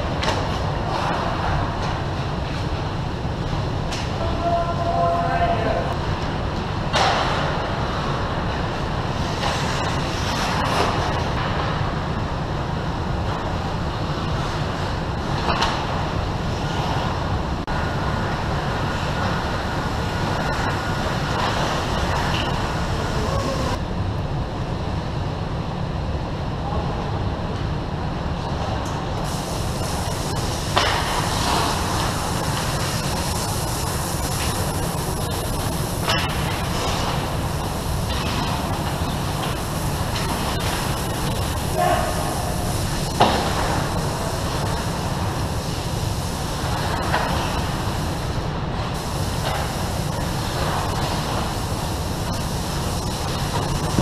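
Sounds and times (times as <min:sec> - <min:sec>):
low rink rumble: 0:00.0 - 0:25.4, 0:26.1 - 0:54.0.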